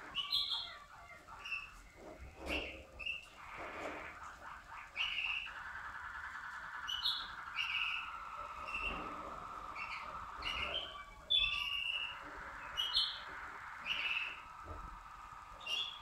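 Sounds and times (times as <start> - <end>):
canary singing rolling trill: 0.0 - 16.0.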